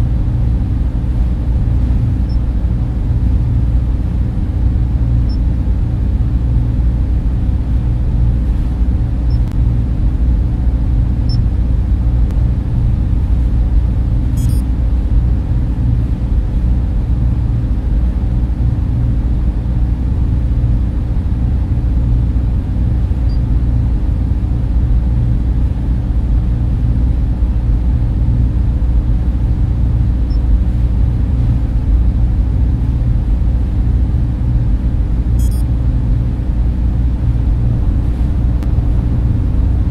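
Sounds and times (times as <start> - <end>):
faint hum tone: 0.0 - 39.9
server fans droning: 0.0 - 39.9.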